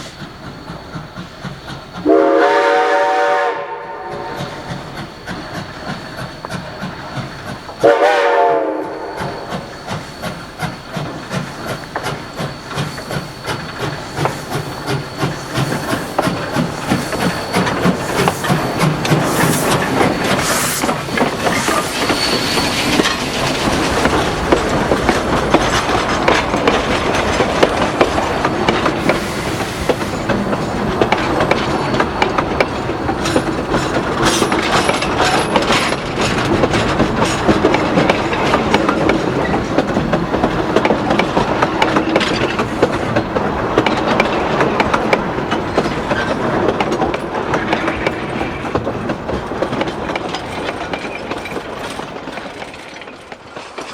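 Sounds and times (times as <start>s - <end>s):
train wheels clattering over rail joints: 0.0s - 53.9s.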